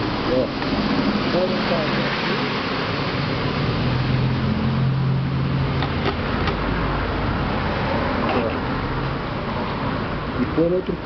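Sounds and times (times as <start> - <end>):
low engine drone of passing vehicle: 0.0 - 11.0.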